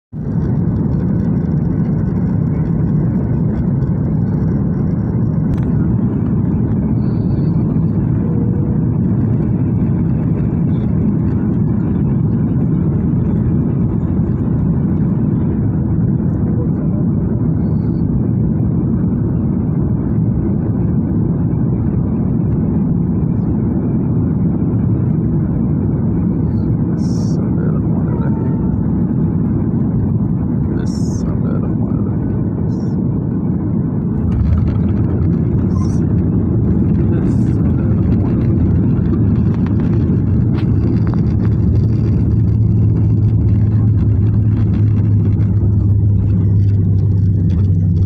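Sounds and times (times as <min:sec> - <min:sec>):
jet engines and rushing air: 0:00.1 - 0:48.0.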